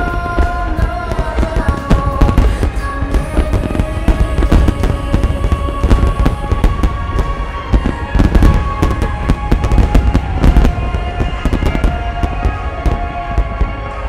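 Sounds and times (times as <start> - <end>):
fireworks booming and crackling: 0.0 - 14.0
music with long held notes: 0.0 - 14.0.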